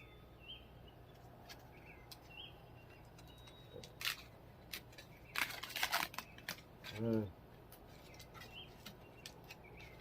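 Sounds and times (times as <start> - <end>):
faint bird chirping: 0.0 - 4.3, 4.9 - 10.0.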